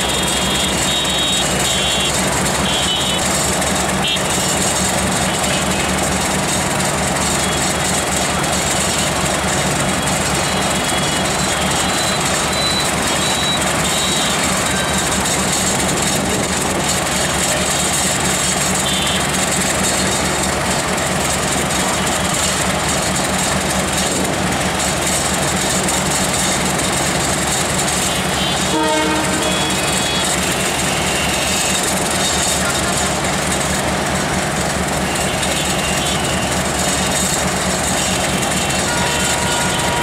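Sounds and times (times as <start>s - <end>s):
diesel locomotive engine droning: 0.0s - 40.0s.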